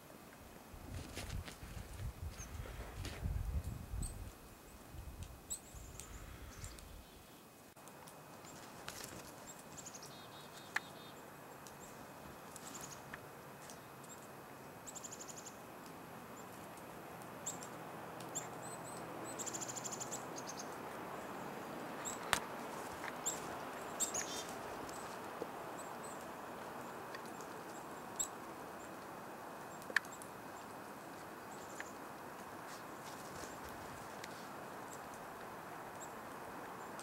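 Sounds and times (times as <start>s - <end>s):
steady background hiss: 0.0s - 37.0s
songbirds chirping: 2.0s - 37.0s.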